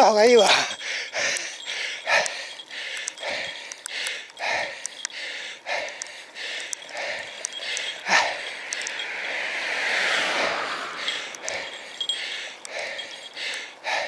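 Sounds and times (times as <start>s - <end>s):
person breathing hard: 0.5s - 14.0s.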